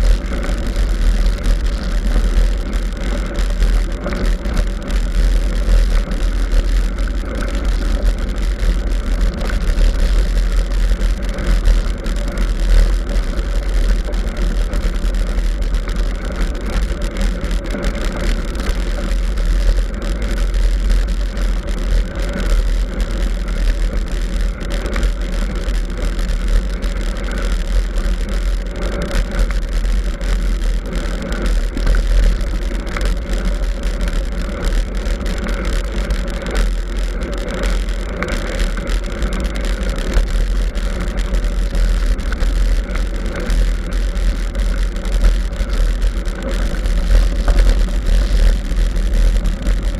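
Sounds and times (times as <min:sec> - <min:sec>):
mountain bike riding noise: 0:00.0 - 0:49.9
wind rumble on microphone: 0:00.0 - 0:49.9.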